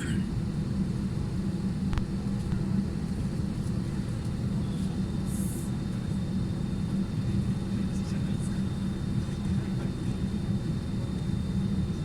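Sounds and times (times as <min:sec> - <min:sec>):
airliner cabin hum and rumble: 0:00.0 - 0:12.0.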